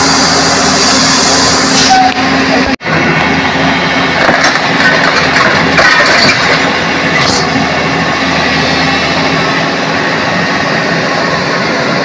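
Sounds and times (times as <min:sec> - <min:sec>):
traffic noise: 0:00.0 - 0:12.0
vehicle engine running nearby: 0:00.0 - 0:12.0.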